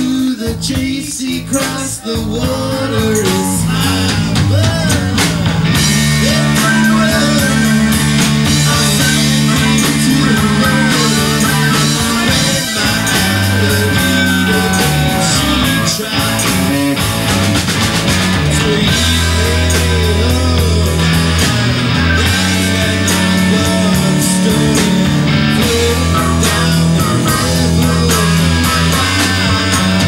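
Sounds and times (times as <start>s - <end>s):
rock band instrumental: 0.0s - 30.0s.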